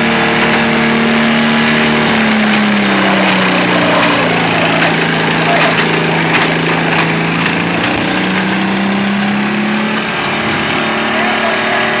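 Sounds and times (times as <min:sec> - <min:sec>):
lawn mower engines under load: 0:00.0 - 0:12.0.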